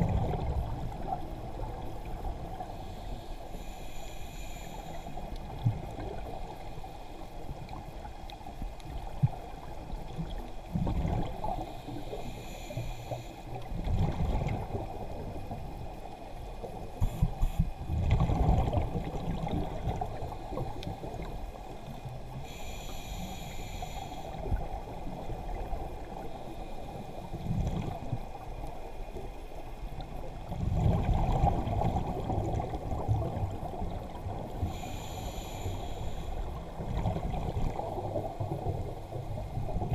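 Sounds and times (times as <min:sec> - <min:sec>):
low underwater rumble: 0:00.0 - 0:39.9.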